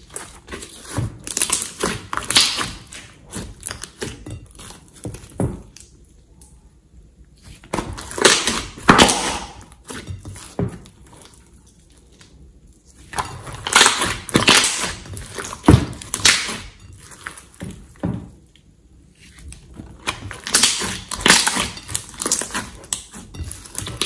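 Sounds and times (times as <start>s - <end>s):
slime squelching: 0.0s - 6.5s, 7.4s - 18.0s, 19.1s - 24.0s.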